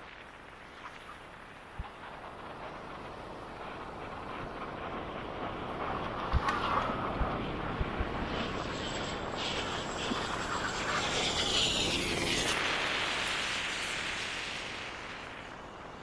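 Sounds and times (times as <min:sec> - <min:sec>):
turboprop airliner passing overhead: 0:00.0 - 0:16.0.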